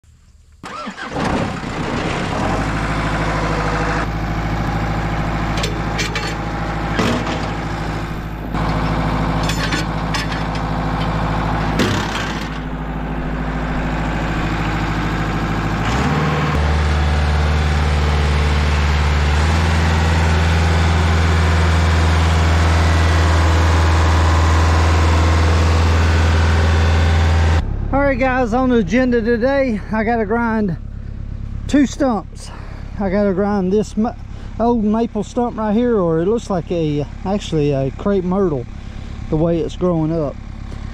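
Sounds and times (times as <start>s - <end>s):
engine idling: 0.1s - 40.9s.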